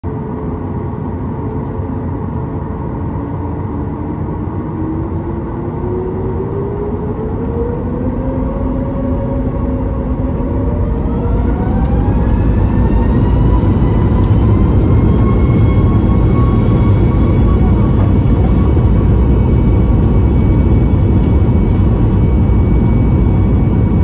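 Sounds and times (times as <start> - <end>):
jet engine rumble: 0.0 - 24.0
jet engine whine rising: 0.1 - 24.0.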